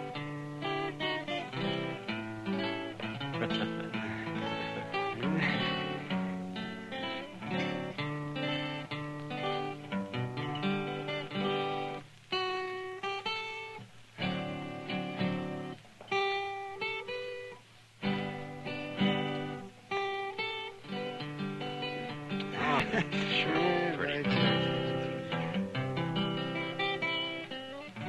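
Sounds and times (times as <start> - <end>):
acoustic guitar playing: 0.0 - 28.0.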